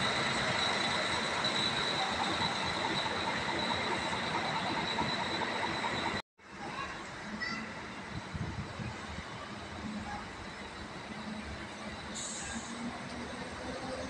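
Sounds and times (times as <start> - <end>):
buses idling: 0.0 - 14.0.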